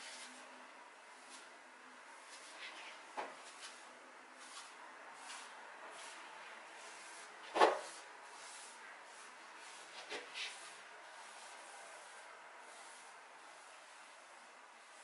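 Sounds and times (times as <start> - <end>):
wet wipe rubbing on tile floor: 0.0 - 0.5, 1.1 - 1.6, 2.2 - 15.0.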